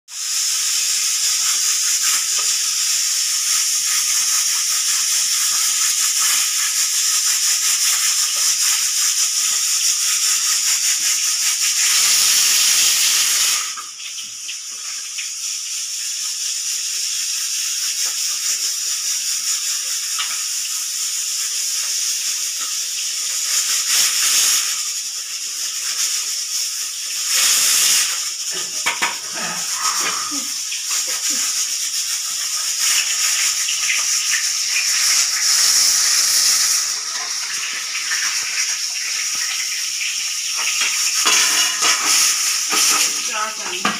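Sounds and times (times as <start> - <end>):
pressure cooker steam whistle hiss: 0.1 - 43.9.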